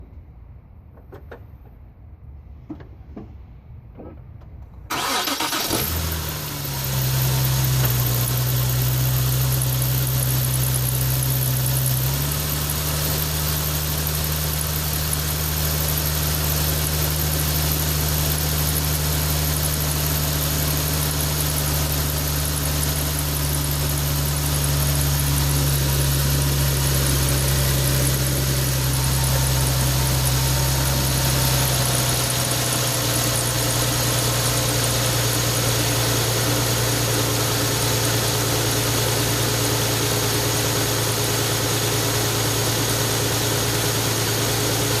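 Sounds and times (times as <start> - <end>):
car engine starting and idling: 3.9 - 45.0.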